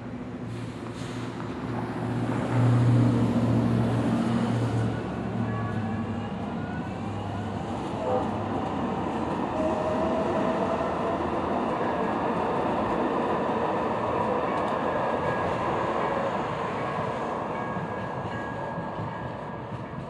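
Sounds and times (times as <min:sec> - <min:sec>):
light rail train rumbling: 0:00.0 - 0:20.0.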